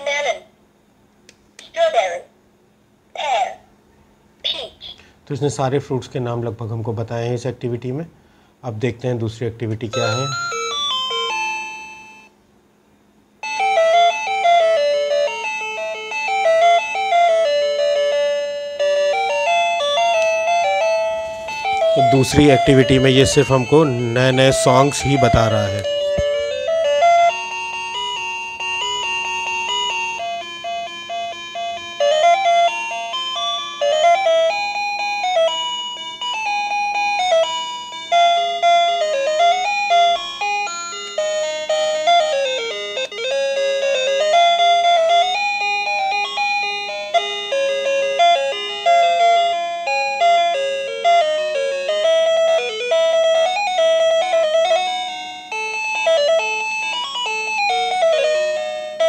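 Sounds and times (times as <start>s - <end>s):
toy phone electronic tunes: 9.9s - 12.3s, 13.4s - 59.0s.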